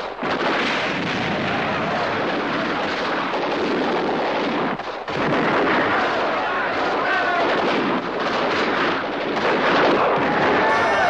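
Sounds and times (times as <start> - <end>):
rapid blank gunfire: 0.0 - 10.6.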